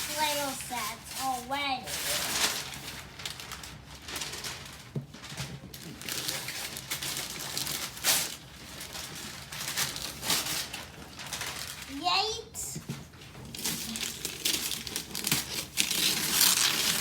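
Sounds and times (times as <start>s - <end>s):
gift wrapping rustling and tearing: 0.0s - 17.0s.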